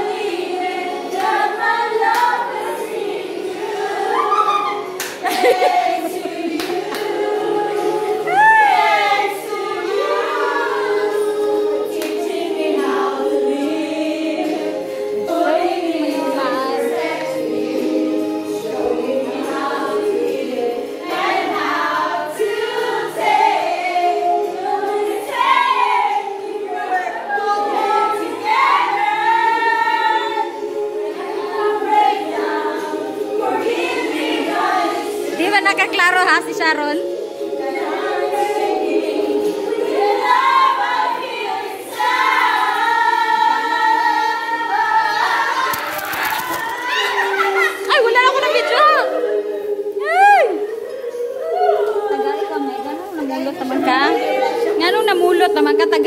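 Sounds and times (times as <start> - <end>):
group of voices singing: 0.0 - 56.0
music: 0.0 - 56.0.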